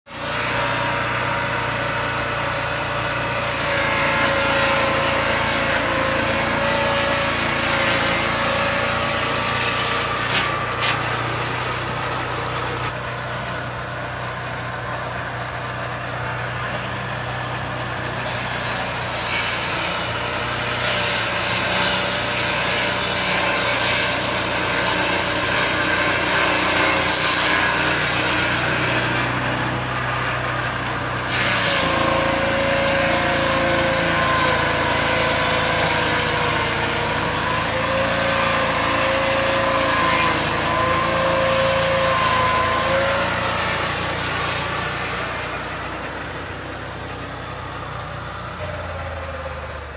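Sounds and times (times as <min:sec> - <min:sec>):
circular saw cutting log: 0:00.1 - 0:49.9
sawmill engine running: 0:00.1 - 0:49.9.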